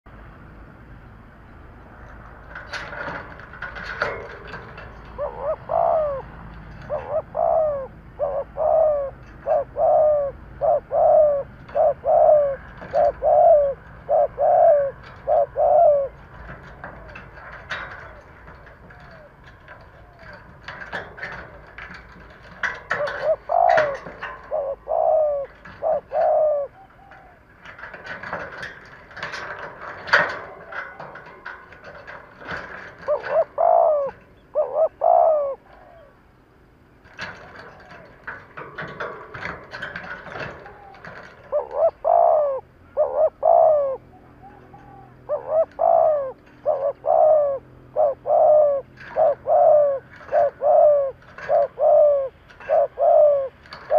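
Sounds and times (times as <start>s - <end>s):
dove cooing: 2.0s - 36.2s, 37.0s - 53.9s.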